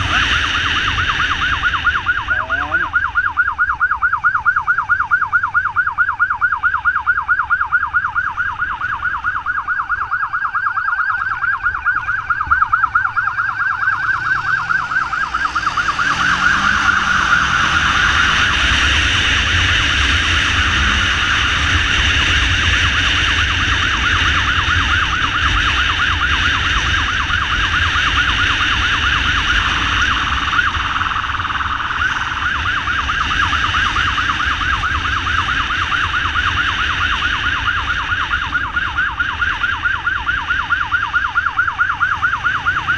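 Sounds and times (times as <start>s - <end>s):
electronic siren yelping: 0.0s - 42.9s
road noise: 0.0s - 42.9s
motorcycle engine: 7.2s - 42.9s.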